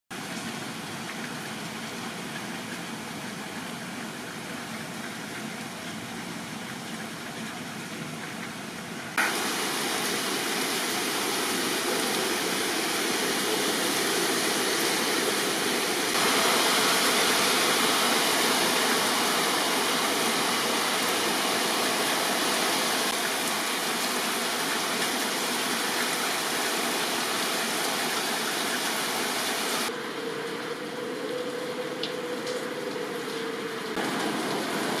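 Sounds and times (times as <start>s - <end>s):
heavy rain pouring: 0.2s - 35.0s.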